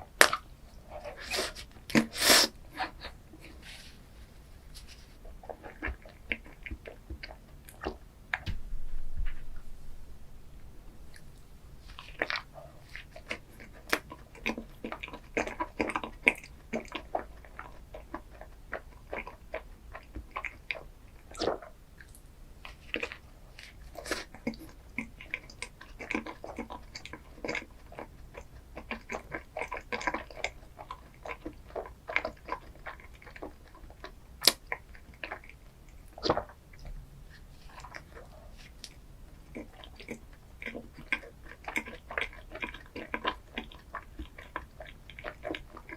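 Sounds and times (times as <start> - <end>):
chewing and biting: 0.0 - 3.6, 5.2 - 8.4, 11.1 - 45.9.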